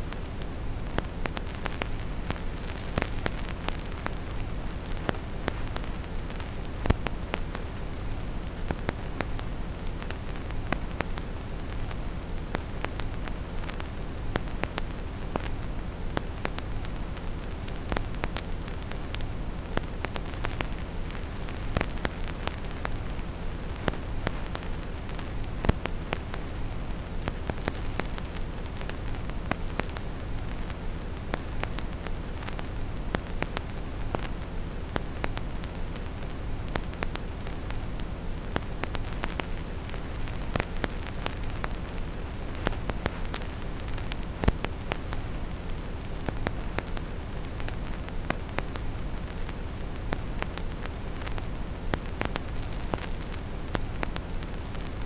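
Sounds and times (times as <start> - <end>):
vinyl record crackle: 0.0 - 55.0.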